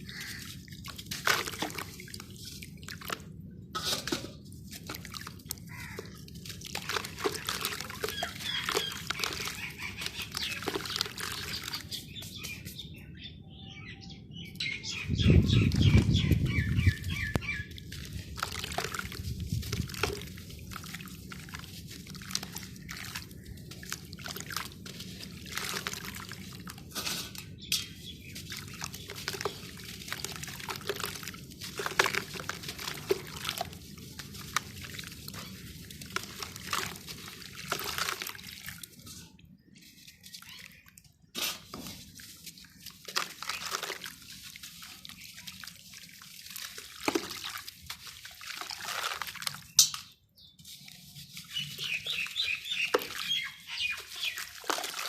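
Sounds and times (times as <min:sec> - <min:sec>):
dirt lumps crumbling into water: 0:00.0 - 0:12.6, 0:15.3 - 0:55.0
small splashes and drips: 0:00.0 - 0:13.0, 0:15.1 - 0:55.0.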